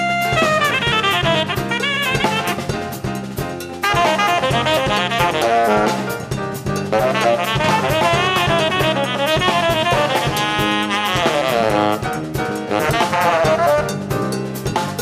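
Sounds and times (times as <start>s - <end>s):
tenor saxophone jazz solo: 0.0s - 14.6s
drum kit: 0.0s - 15.0s
electric bass: 0.0s - 15.0s.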